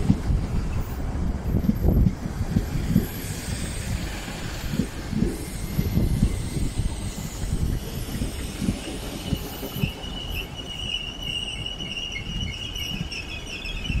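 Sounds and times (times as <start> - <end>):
train wheels rumbling on track: 0.0 - 14.0
high steady squeal: 1.9 - 14.0.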